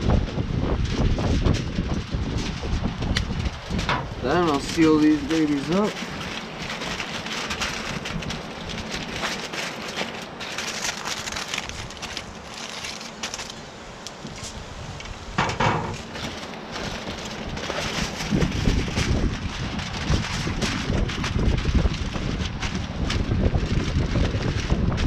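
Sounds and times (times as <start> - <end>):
aluminium foil crinkling: 0.0 - 25.0.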